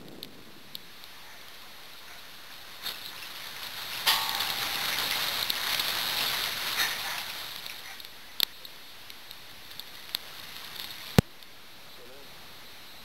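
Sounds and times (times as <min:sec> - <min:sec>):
rain on foliage: 0:00.0 - 0:13.0.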